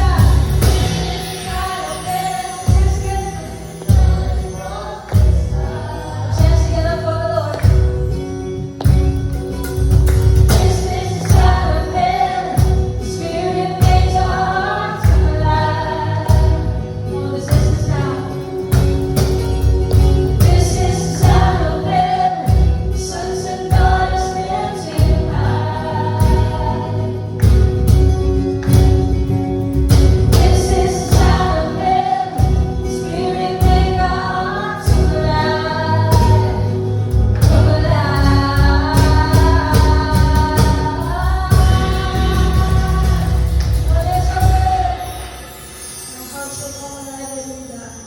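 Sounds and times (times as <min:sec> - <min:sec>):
band with drum beat and bass: 0:00.0 - 0:07.0, 0:07.6 - 0:45.2
voices singing together: 0:00.0 - 0:08.0, 0:10.4 - 0:19.2, 0:20.1 - 0:28.0, 0:30.1 - 0:46.4.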